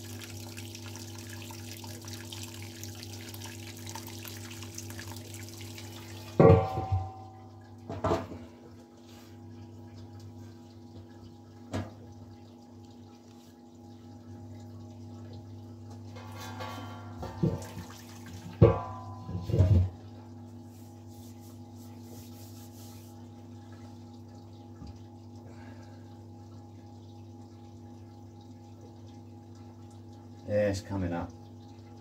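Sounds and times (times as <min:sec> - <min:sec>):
liquid running and trickling: 0:00.0 - 0:32.0
steady electric hum: 0:00.0 - 0:32.0.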